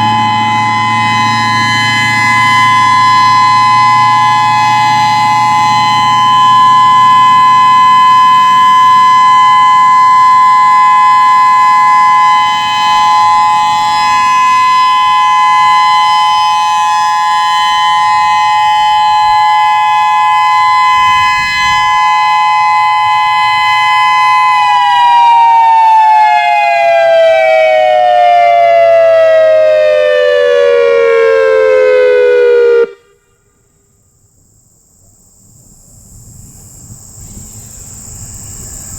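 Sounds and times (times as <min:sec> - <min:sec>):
electronic warning siren winding down: 0:00.0 - 0:33.0.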